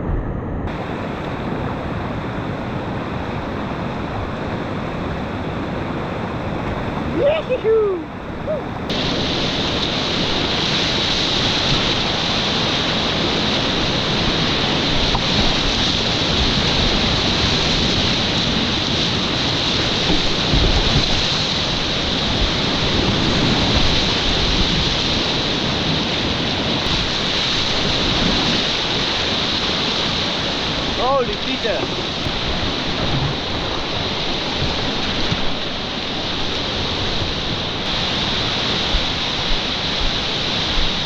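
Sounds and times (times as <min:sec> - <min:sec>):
whitewater rapids rushing: 0:00.7 - 0:41.0.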